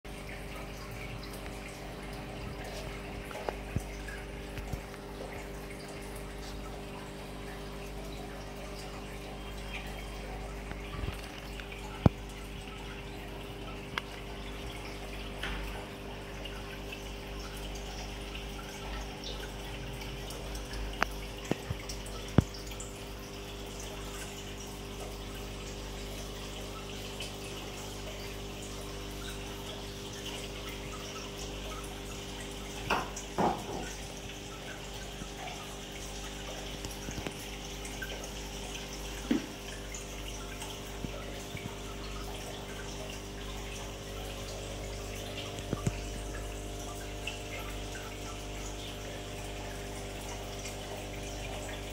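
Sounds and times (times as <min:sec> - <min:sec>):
aquarium pump hum: 0:00.1 - 0:51.9
water trickling and dripping: 0:00.1 - 0:51.9.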